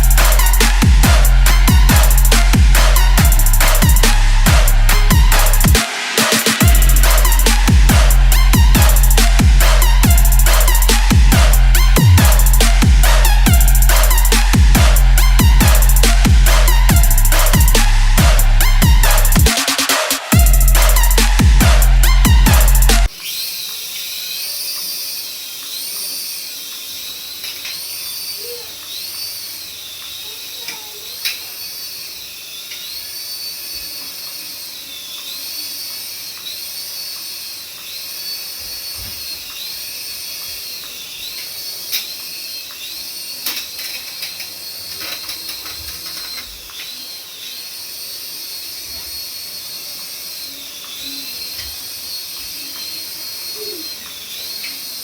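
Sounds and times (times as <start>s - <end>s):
toy electric motor whining: 0.0s - 55.0s.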